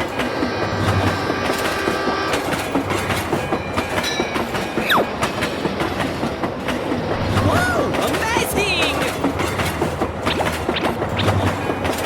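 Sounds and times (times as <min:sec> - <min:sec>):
train wheels clickety-clack: 0:00.0 - 0:12.0.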